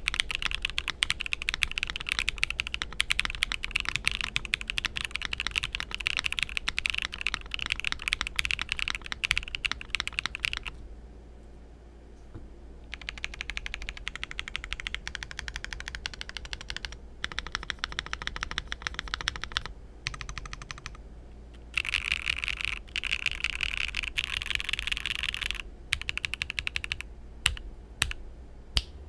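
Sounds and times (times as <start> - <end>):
mechanical keyboard typing: 0.0 - 10.7, 12.9 - 21.0, 21.7 - 28.2.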